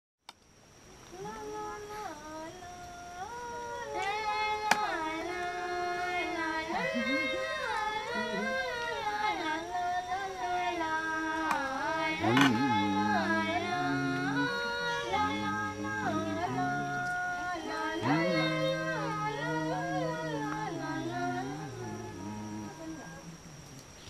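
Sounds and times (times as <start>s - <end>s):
women singing in harmony: 1.2s - 24.0s.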